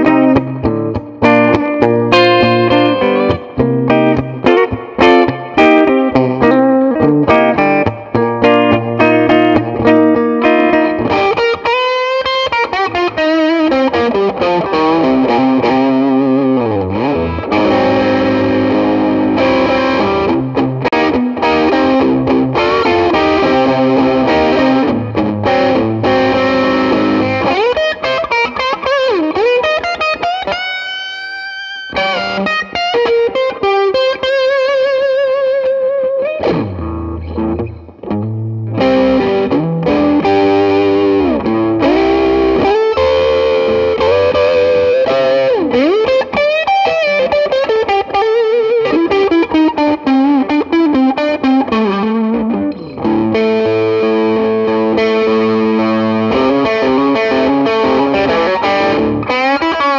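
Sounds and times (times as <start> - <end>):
overdriven electric guitar solo: 0.0 - 59.9.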